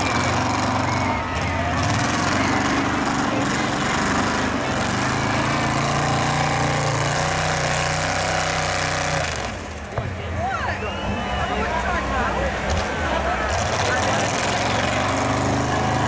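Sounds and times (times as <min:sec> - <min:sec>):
car engine running rough: 0:00.0 - 0:16.0.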